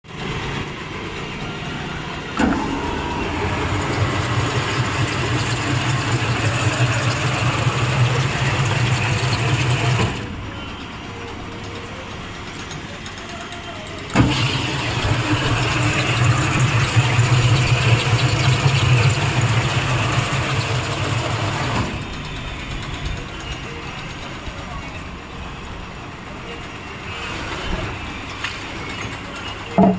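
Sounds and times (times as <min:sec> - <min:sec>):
washing machine motor hum: 0:00.1 - 0:29.9.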